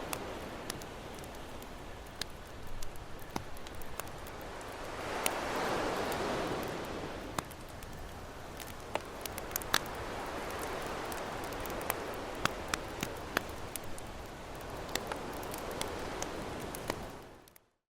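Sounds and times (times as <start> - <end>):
ocean waves breaking: 0.0 - 17.2
campfire crackling and popping: 0.0 - 17.7.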